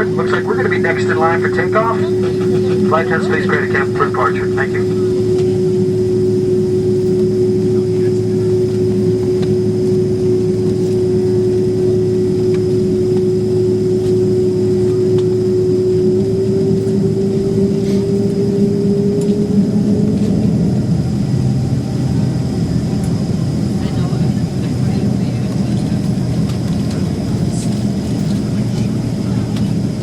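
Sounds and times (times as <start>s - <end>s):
steady tone: 0.0s - 25.4s
jet engines idling in cabin: 0.0s - 30.0s.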